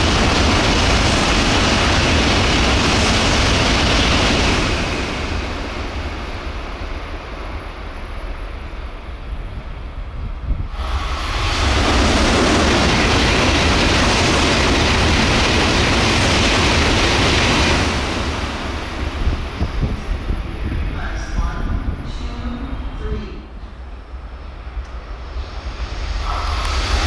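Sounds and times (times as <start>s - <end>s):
high-speed train rushing past: 0.0s - 27.0s.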